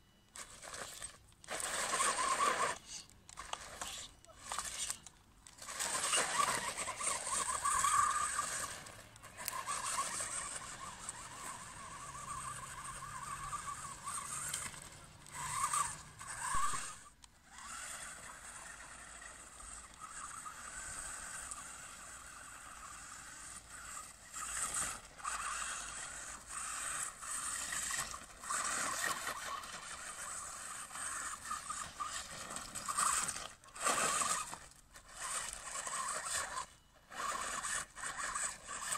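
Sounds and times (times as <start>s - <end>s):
toy truck motor whining: 0.0s - 38.9s
tyres scraping dirt: 0.4s - 38.9s.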